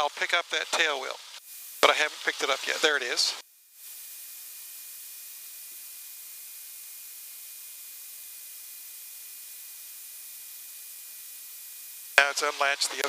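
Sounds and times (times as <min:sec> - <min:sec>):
electronic hiss: 0:00.0 - 0:13.0.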